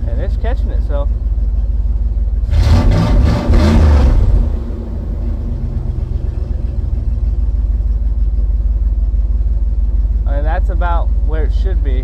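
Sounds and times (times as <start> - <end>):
truck engine revving and idling: 0.0 - 12.0.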